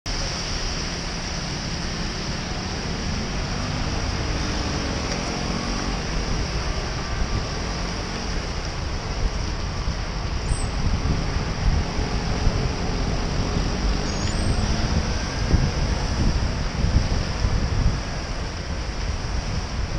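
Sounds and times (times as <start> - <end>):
passing motor traffic rumble: 0.1 - 19.9
wet tyres hissing: 0.1 - 19.9.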